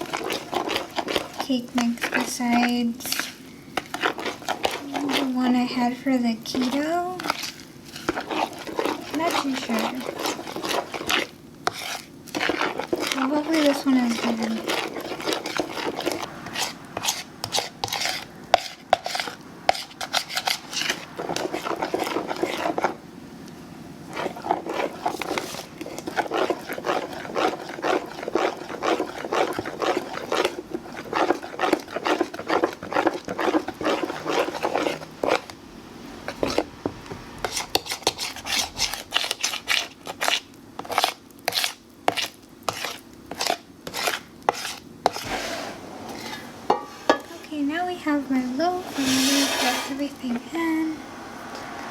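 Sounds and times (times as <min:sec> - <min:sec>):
utensil stirring batter in bowl: 0:00.0 - 0:35.6, 0:36.2 - 0:50.9.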